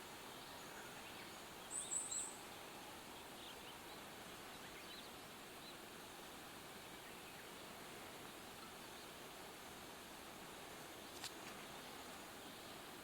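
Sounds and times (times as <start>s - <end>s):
small birds chirping: 0.0s - 9.6s, 10.7s - 13.0s
faint steady background noise: 0.0s - 13.0s.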